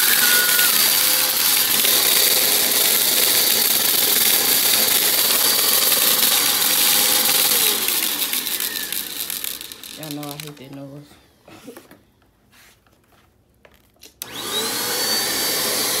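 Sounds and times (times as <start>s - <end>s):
stick vacuum whining: 0.0s - 10.9s, 14.0s - 16.0s.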